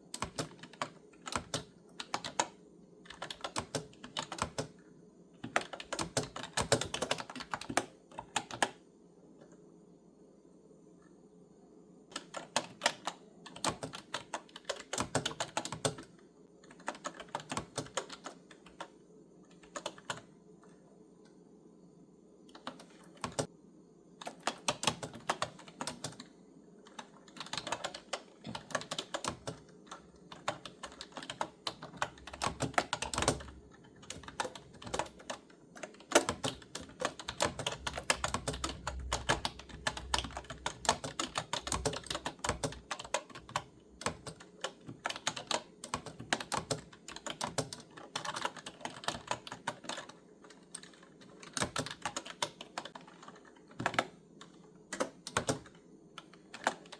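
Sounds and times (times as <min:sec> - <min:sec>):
typing on clicky keyboard: 0:00.0 - 0:04.8, 0:05.4 - 0:08.8, 0:12.1 - 0:20.8, 0:22.5 - 0:23.5, 0:24.2 - 0:56.9.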